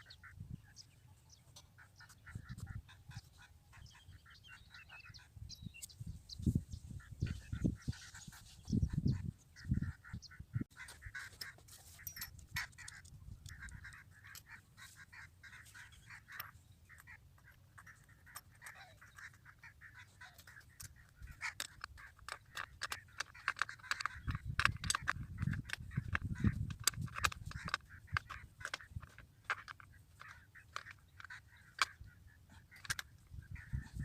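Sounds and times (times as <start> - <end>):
birds calling: 0.0 - 34.0.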